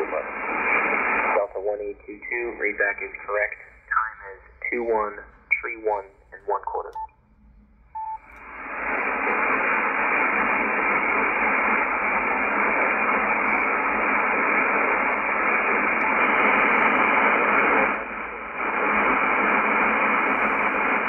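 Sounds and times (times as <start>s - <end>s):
shortwave radio static hiss: 0.0s - 7.0s, 8.2s - 21.0s.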